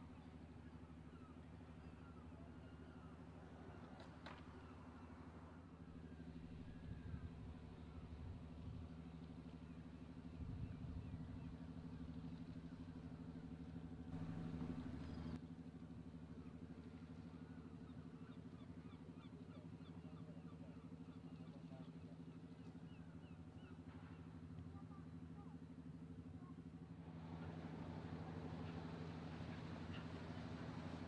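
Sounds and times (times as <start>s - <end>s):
diesel engine drone: 0.0s - 31.0s.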